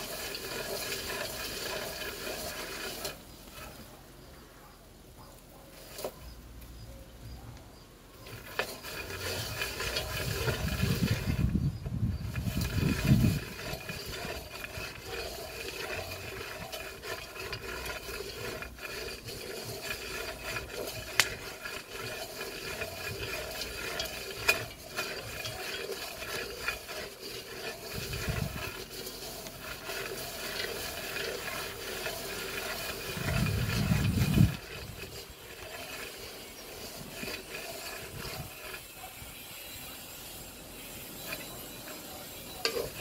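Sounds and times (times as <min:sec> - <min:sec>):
beans rattling in metal pot: 0:00.0 - 0:04.1, 0:05.8 - 0:06.2, 0:08.1 - 0:43.0.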